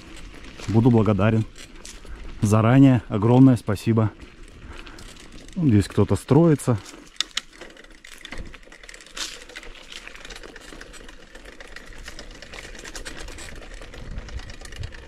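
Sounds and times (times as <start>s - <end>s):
bicycle freewheel ticking: 0.0s - 15.0s.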